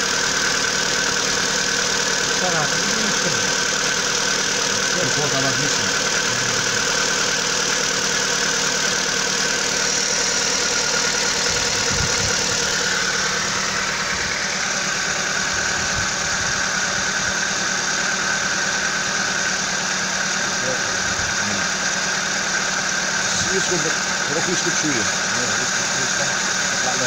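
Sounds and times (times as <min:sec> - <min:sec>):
engine idling with fast ticking: 0:00.0 - 0:27.0.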